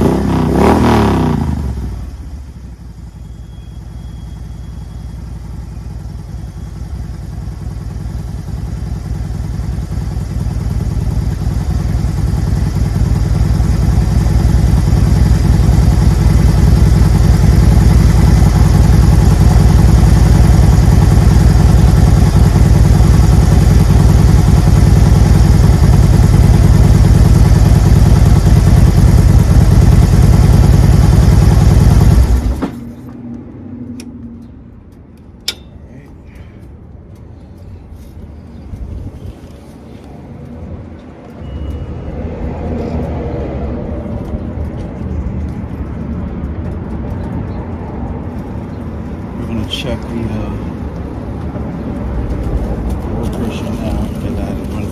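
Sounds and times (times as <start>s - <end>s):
motorcycle engine running: 0.0s - 33.1s, 40.8s - 54.9s.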